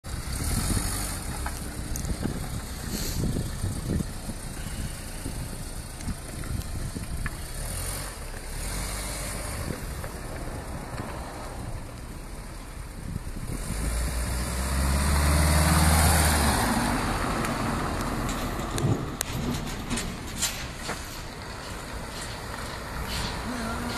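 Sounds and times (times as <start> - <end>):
truck engine running: 0.1 - 23.9.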